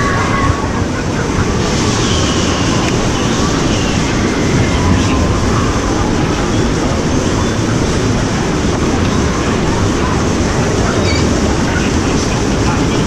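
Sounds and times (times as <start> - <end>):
churning water rush: 0.0 - 13.0.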